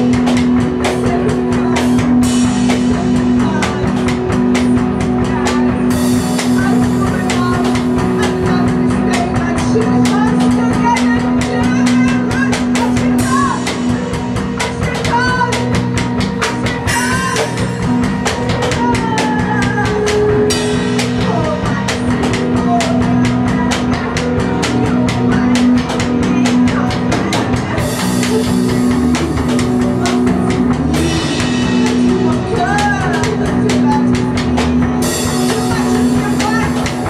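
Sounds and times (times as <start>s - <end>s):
woman singing into a microphone: 0.0s - 14.0s, 14.7s - 15.8s, 16.4s - 37.0s
drum kit playing fast: 0.0s - 37.0s
electric guitar: 0.0s - 37.0s.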